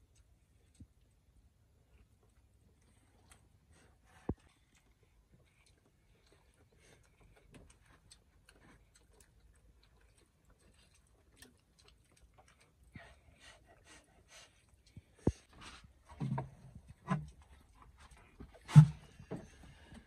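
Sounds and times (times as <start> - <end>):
people eating from enamel plates: 0.0 - 20.0.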